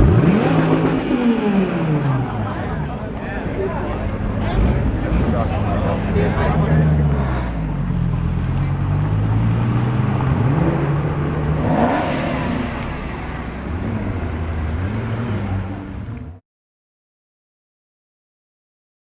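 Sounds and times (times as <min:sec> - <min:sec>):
car engine driving off: 0:00.0 - 0:16.4.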